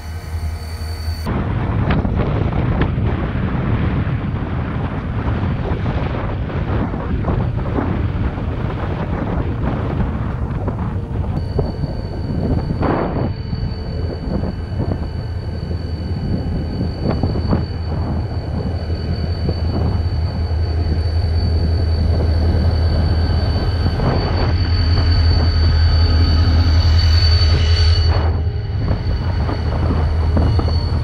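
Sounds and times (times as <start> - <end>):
diesel locomotive engine rumble: 0.0 - 31.0.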